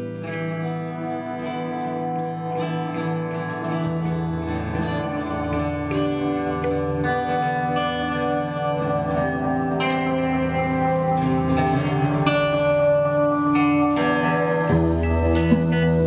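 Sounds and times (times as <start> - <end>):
live band slow instrumental: 0.0 - 16.0
ringing guitar chords: 0.0 - 16.0.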